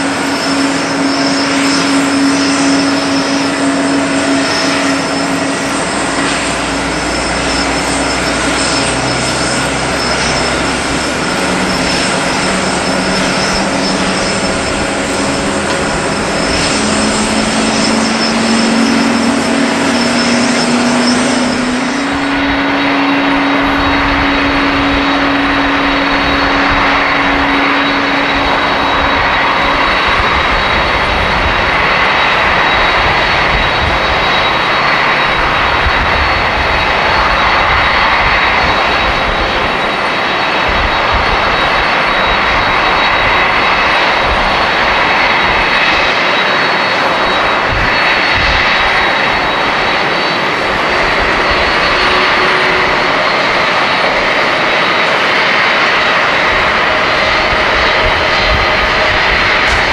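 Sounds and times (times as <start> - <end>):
high engine whine: 0.0 - 59.9
jet engines running: 0.0 - 59.9.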